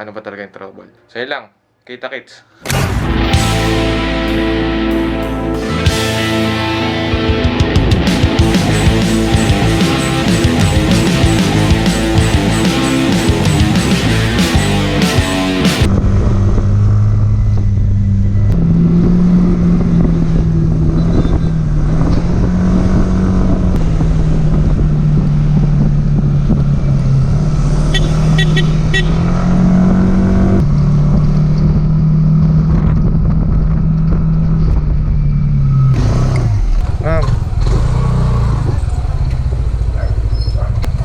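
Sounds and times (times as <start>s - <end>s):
vehicle engine droning: 2.6s - 41.0s.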